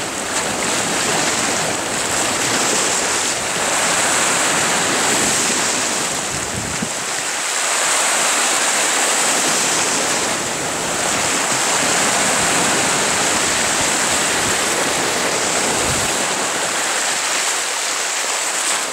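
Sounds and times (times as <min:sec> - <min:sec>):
waves washing on rocky shore: 0:00.0 - 0:18.9.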